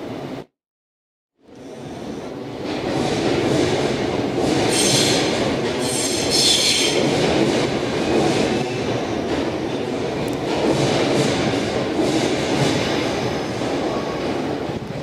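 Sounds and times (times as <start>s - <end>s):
train wheels rumbling on rail: 1.4s - 15.0s.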